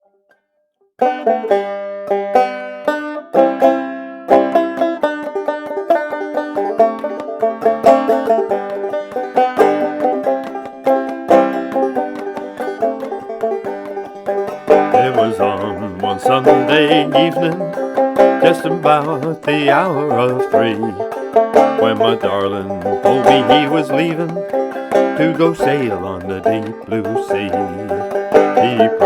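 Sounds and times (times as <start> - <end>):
banjo played clawhammer style: 1.0 - 29.0.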